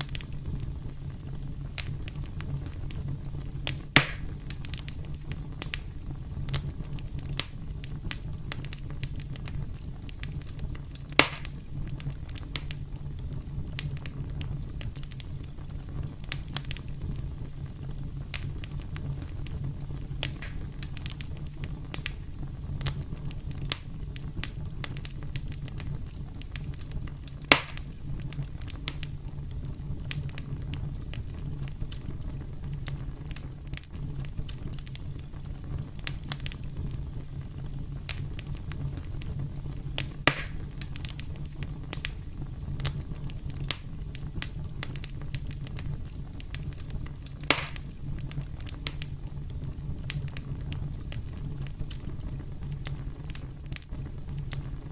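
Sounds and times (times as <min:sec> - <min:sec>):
campfire crackling: 0:00.0 - 0:54.9
loud fire pops: 0:00.0 - 0:54.9.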